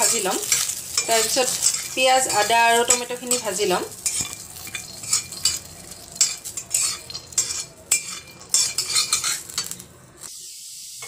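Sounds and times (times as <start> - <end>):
nuts rolling across a pan: 0.0 - 10.3
metal spatula scraping a wok: 0.0 - 10.4.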